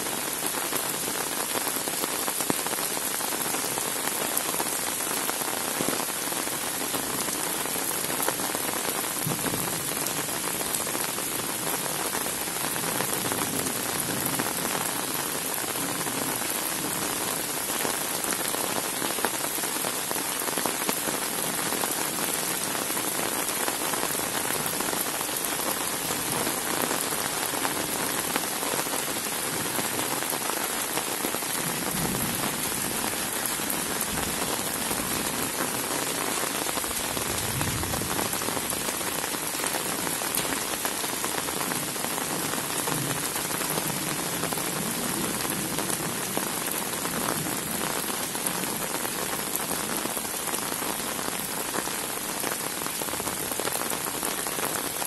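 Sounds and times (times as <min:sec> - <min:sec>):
rain on road and foliage: 0:00.0 - 0:55.0.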